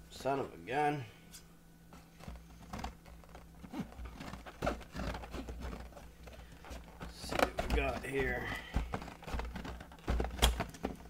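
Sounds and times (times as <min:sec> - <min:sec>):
packaging crinkling and rustling: 0:02.0 - 0:11.0.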